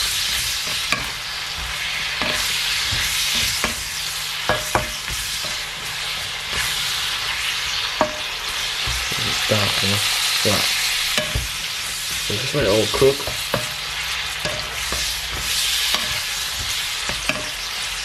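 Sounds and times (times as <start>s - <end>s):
beef and peppers sizzling in a wok: 0.0s - 18.0s
spatula scraping and knocking pan: 0.0s - 18.0s.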